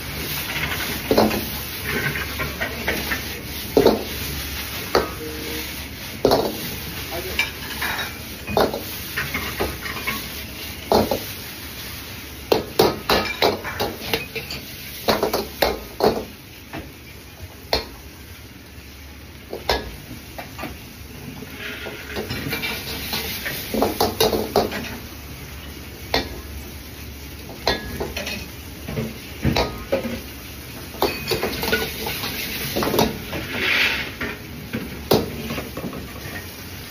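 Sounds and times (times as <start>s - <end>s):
food sizzling: 0.0s - 36.9s.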